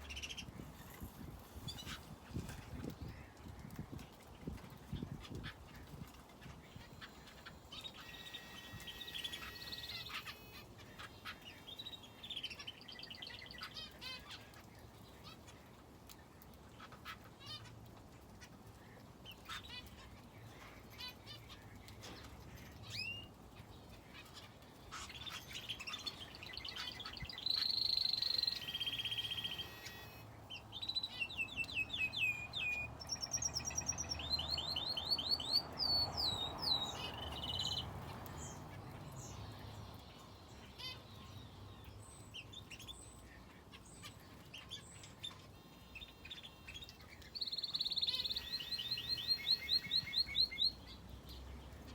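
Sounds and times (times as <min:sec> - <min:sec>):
finches and canary chirping: 0:00.0 - 0:03.4, 0:04.8 - 0:15.8, 0:18.4 - 0:51.9.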